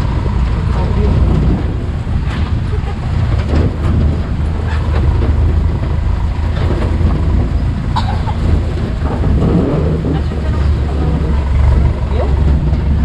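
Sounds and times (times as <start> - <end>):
engine low rumble: 0.0 - 13.0
light knocks and rattles: 1.1 - 13.0.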